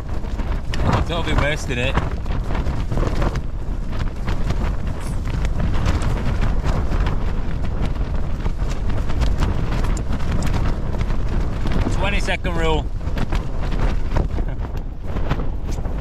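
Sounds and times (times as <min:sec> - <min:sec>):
tent fabric flapping: 0:00.0 - 0:16.0
wind rumble on microphone: 0:00.0 - 0:16.0.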